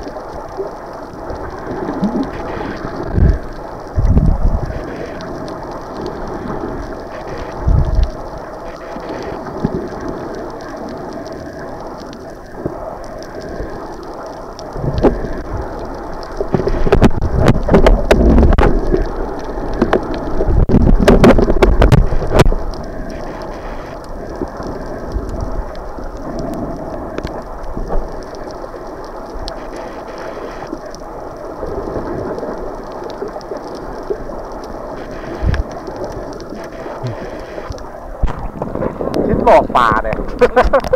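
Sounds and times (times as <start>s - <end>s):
muffled water splashing: 0.0s - 40.9s.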